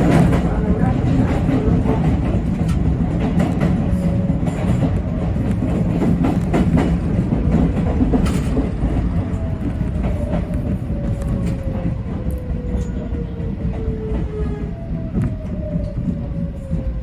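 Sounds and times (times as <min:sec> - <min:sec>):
wheels clicking over rail joints: 0:00.0 - 0:14.3
electric train running on rails: 0:00.0 - 0:17.0.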